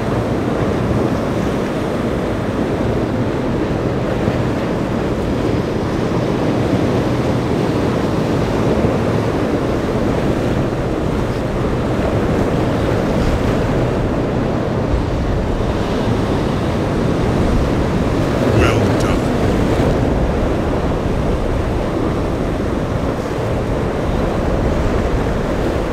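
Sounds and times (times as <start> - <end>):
boat engines droning: 0.0 - 25.9.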